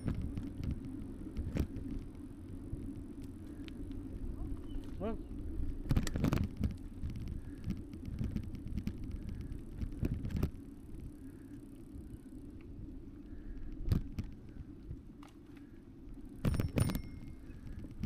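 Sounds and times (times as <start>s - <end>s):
wind and tyre rumble: 0.0s - 18.0s.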